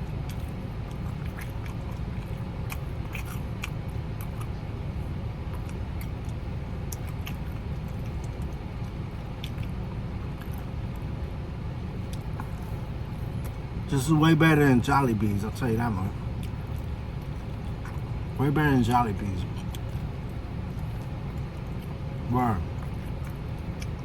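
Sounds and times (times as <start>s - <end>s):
chewing crispy chicken: 0.0s - 13.8s, 16.0s - 18.4s, 19.2s - 24.0s.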